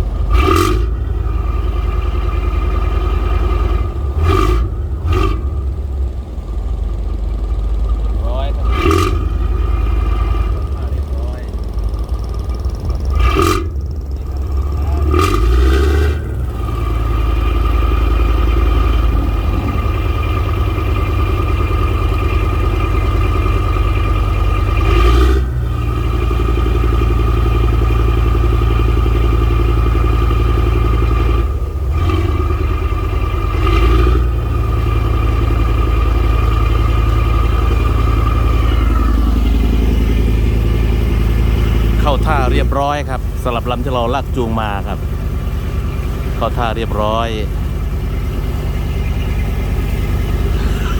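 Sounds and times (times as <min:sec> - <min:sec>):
boat engine low rumble: 0:00.0 - 0:50.9
high steady engine whine: 0:00.0 - 0:50.9.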